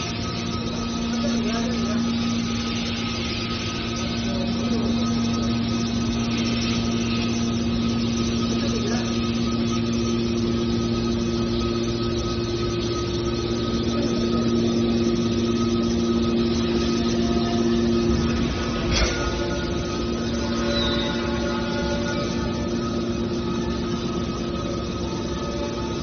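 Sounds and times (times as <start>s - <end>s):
hydraulic power unit humming: 0.0s - 26.0s.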